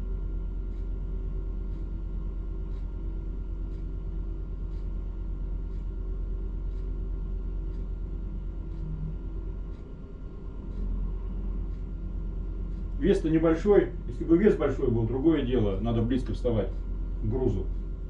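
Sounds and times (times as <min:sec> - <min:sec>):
faint ticking: 0:00.7 - 0:18.0.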